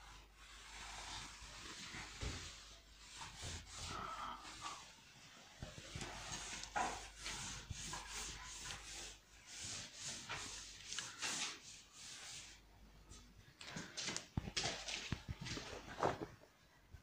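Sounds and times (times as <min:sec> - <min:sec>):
cloth wiping chalkboard: 0:00.0 - 0:13.9.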